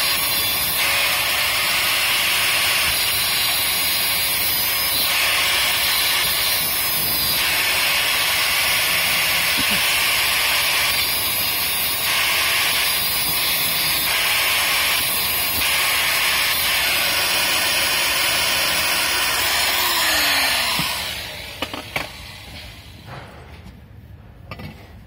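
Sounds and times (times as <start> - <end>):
angle grinder grinding metal: 0.0 - 22.9.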